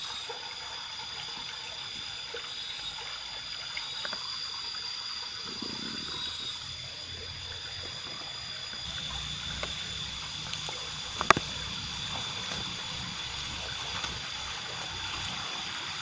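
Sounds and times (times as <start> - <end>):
water trickling and gurgling: 0.0 - 16.0.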